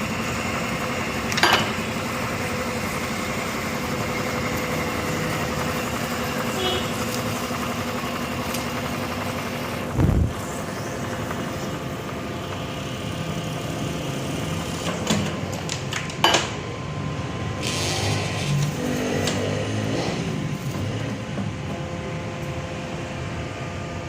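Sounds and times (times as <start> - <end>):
cutting machine humming: 0.0 - 24.0.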